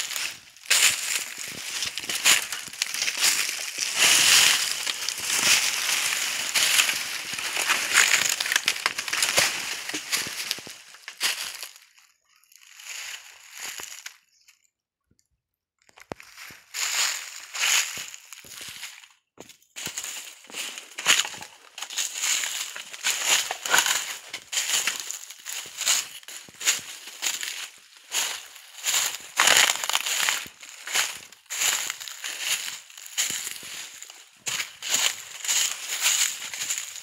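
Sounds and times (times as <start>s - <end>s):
footsteps crunching dry leaves: 0.0s - 14.2s, 16.1s - 37.0s.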